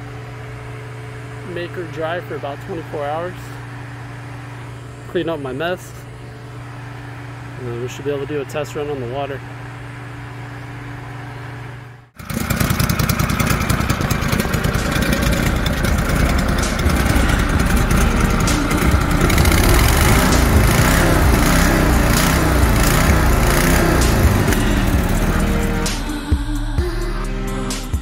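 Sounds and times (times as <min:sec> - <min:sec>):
loud engine running: 0:00.0 - 0:26.7.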